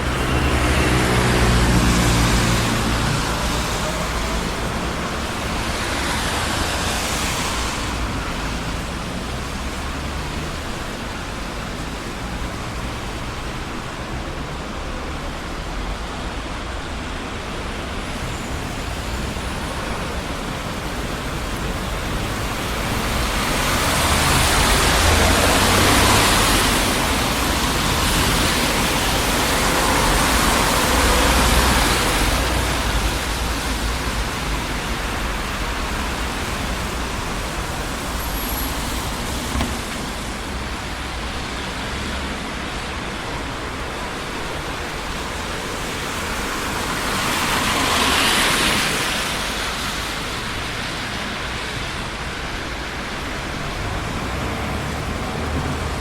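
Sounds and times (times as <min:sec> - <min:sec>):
engines rumbling: 0:00.0 - 0:56.0.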